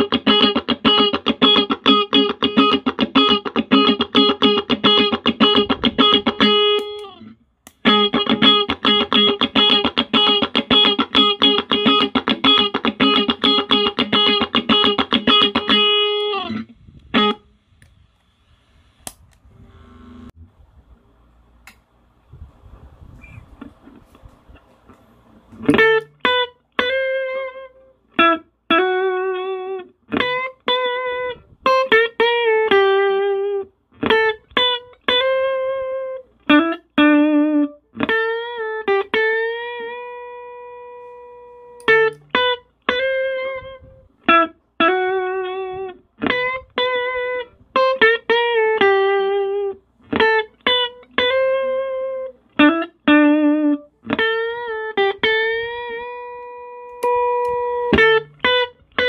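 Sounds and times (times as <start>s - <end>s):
clean electric guitar melody: 0.0s - 17.5s, 25.4s - 59.0s.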